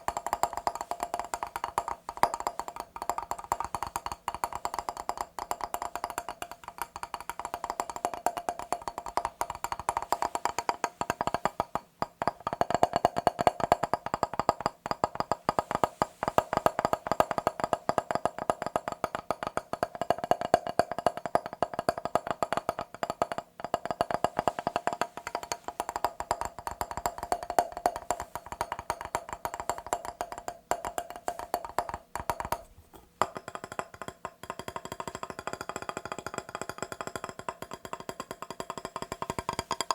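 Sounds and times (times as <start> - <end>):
rapid tapping on glass mirror: 0.0 - 39.9.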